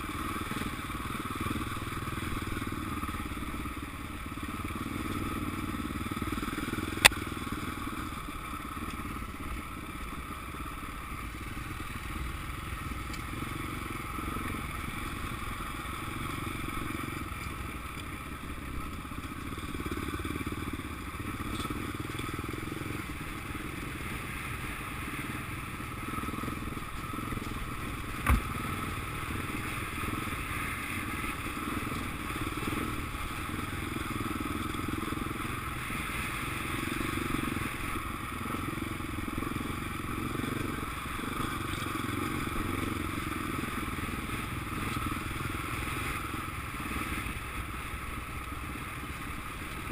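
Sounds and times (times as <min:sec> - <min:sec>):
motocross engines running: 0:00.0 - 0:49.9.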